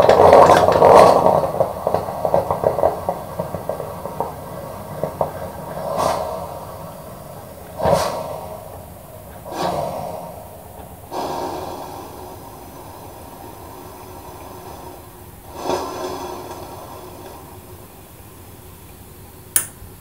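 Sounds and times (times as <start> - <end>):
coffee maker gurgling and hissing: 0.0 - 20.0.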